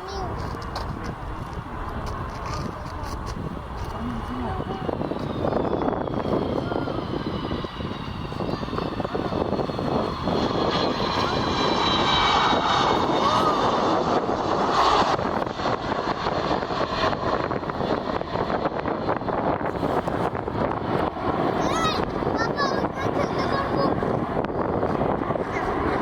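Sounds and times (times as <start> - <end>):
jet engines passing: 0.0 - 26.0.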